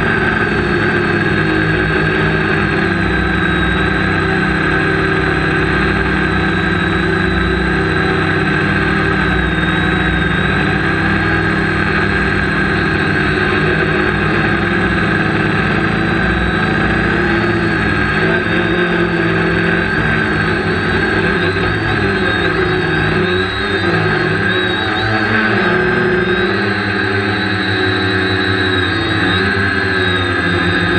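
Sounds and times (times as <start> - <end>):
quadcopter propellers buzzing: 0.0 - 30.9.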